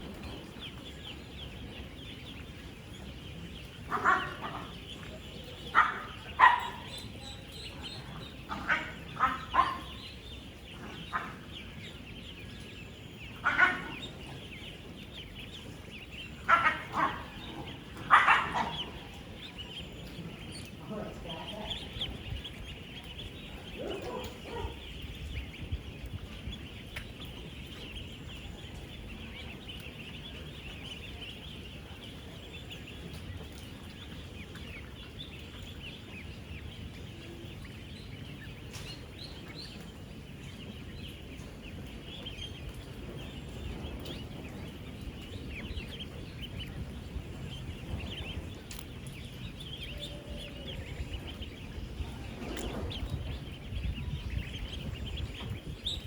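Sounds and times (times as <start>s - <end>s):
ducklings peeping: 0.0s - 56.0s
low steady rumble: 0.0s - 56.0s.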